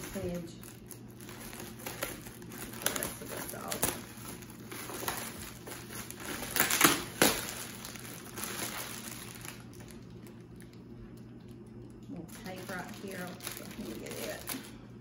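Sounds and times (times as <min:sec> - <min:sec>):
packing material crinkling: 0:00.0 - 0:14.8.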